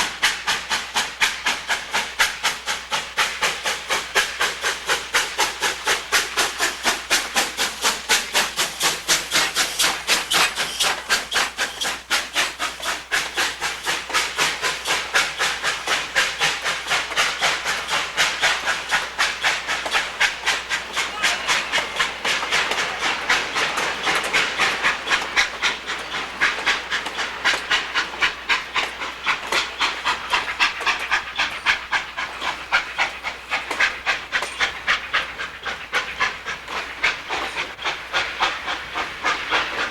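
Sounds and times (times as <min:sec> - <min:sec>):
steam hissing: 0:00.0 - 0:39.9
steam locomotive chuffing: 0:00.0 - 0:39.9.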